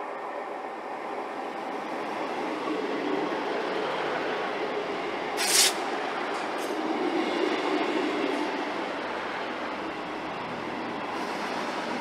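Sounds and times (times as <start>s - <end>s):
train running past: 0.0s - 12.0s.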